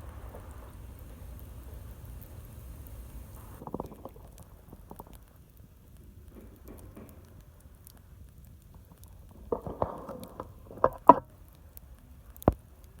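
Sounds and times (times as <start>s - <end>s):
sharp fire pops: 0.0s - 13.0s
wood fire crackling: 0.0s - 13.0s.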